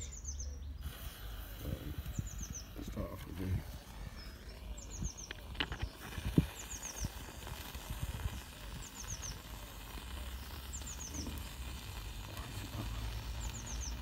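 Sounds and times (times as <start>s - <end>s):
small bird singing: 0.0s - 14.0s.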